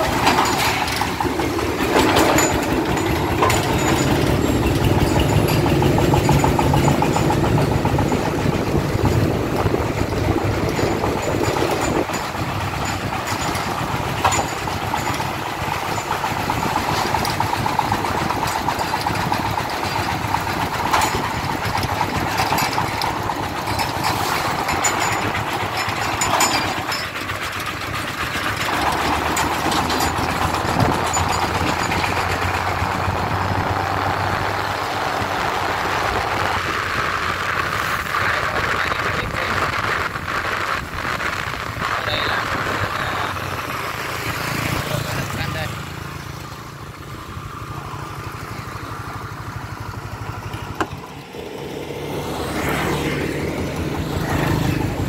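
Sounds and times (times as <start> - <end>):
diesel engine chugging: 0.0 - 55.0.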